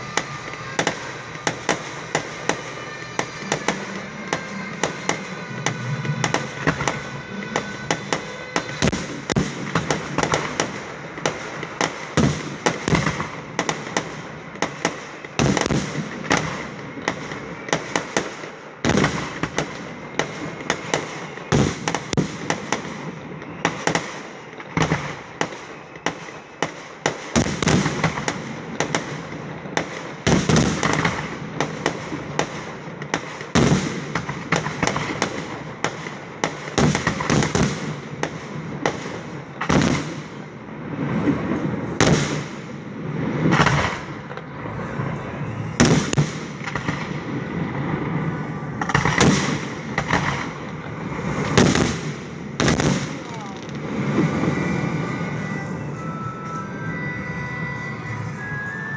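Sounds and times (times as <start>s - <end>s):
fireworks popping and banging: 0.0s - 57.8s
heavy firework bursts: 0.0s - 58.9s.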